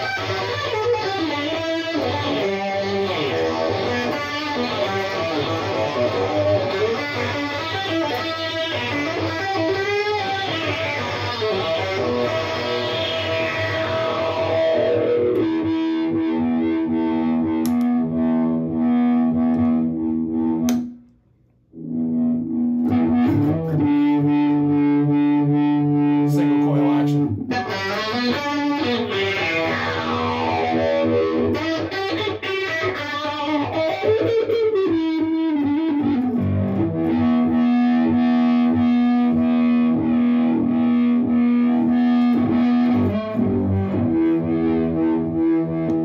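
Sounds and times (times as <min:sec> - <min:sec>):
electric guitar with synth effect: 0:00.0 - 0:21.0, 0:21.7 - 0:46.0.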